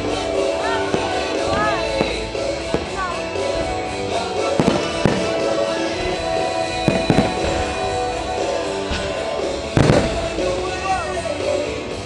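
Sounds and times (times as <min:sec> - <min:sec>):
fireworks bursting: 0:00.0 - 0:12.0
music soundtrack: 0:00.0 - 0:12.0.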